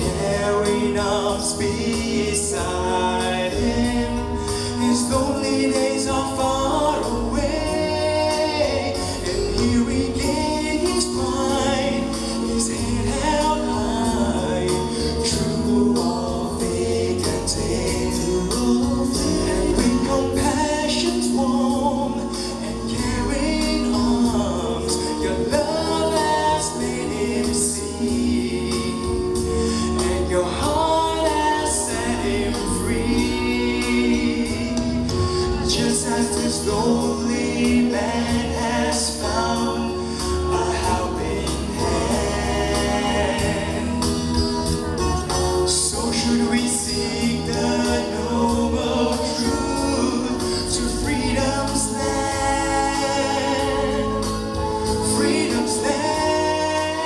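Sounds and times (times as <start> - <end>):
acoustic guitar: 0.0 - 57.0
man and woman singing: 0.0 - 57.0.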